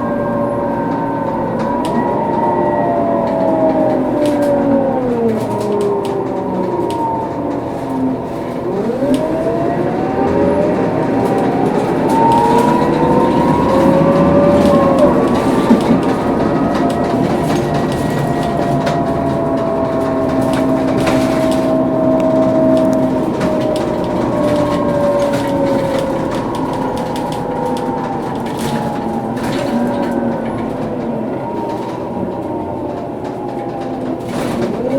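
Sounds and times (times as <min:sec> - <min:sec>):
bus axle whine: 0:00.0 - 0:34.9
bus driving: 0:00.0 - 0:34.9.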